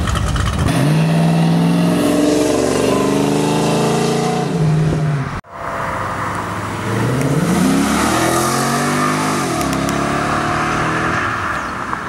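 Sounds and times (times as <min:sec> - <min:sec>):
car engine accelerating: 0:00.3 - 0:11.8.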